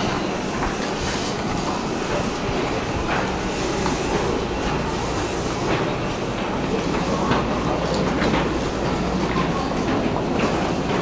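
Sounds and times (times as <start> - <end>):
train running hum: 0.0 - 11.0.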